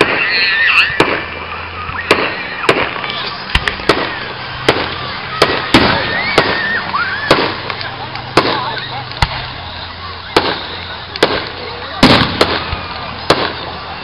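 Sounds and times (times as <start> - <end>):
fireworks exploding: 0.0 - 14.0.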